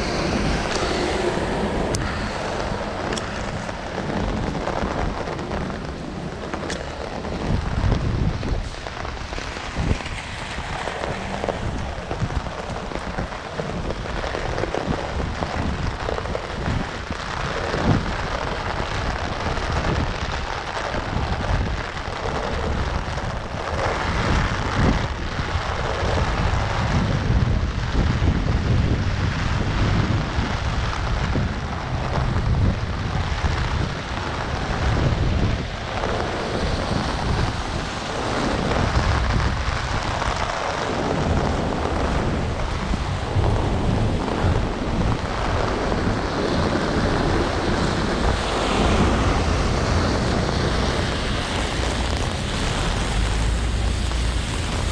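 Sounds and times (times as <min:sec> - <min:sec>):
rain hiss: 0:00.0 - 0:54.9
wind buffeting microphone: 0:00.0 - 0:54.9.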